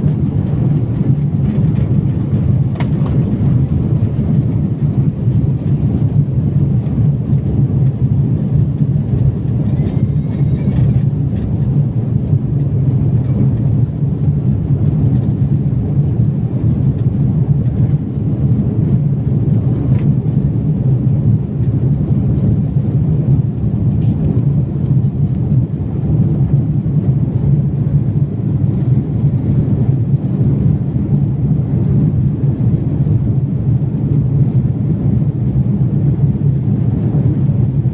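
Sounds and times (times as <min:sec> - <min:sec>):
jet engine cabin rumble: 0:00.0 - 0:37.9.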